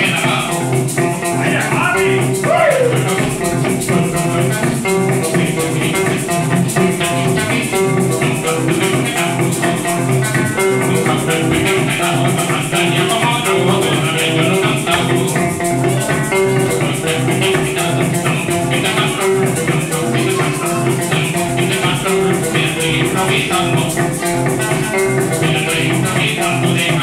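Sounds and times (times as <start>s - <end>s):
maracas shaking: 0.0s - 27.0s.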